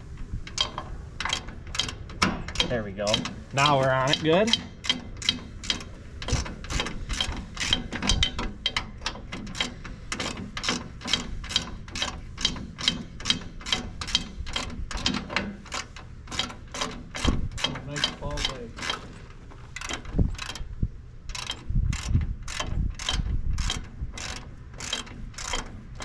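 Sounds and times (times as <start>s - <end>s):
ratchet wrench clicking: 0.4s - 19.2s, 19.8s - 20.7s, 21.3s - 26.0s.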